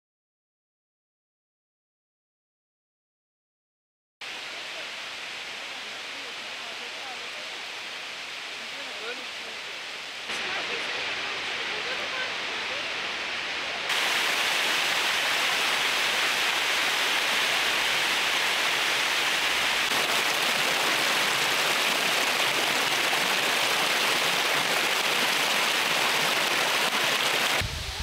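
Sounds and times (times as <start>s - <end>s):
waterfall rushing over rocks: 4.2s - 28.0s.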